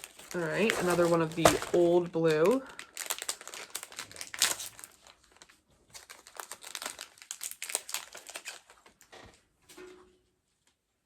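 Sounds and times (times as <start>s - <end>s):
packaging crinkling: 0.0s - 9.1s.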